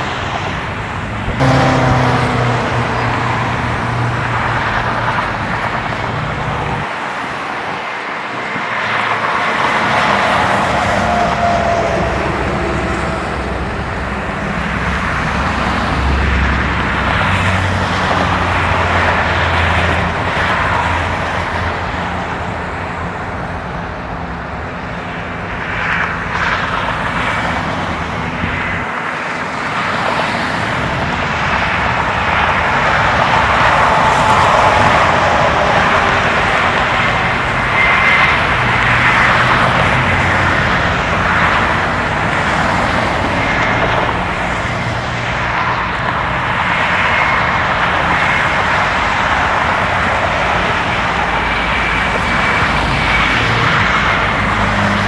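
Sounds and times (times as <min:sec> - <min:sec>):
car engines running: 0:00.0 - 0:55.0
tyres on the road: 0:00.0 - 0:55.0.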